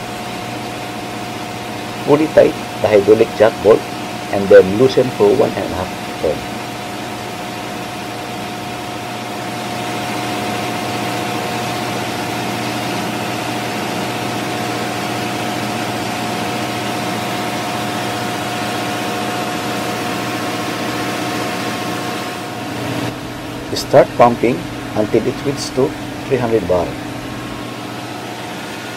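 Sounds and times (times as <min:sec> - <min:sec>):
engine-room machinery drone: 0:00.0 - 0:28.9
held hum tones: 0:00.0 - 0:28.9.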